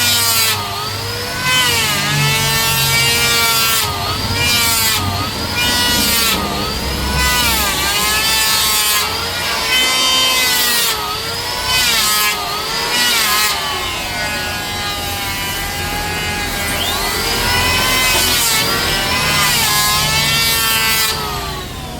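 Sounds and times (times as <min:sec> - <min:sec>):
power tool cutting wood: 0:00.0 - 0:21.9.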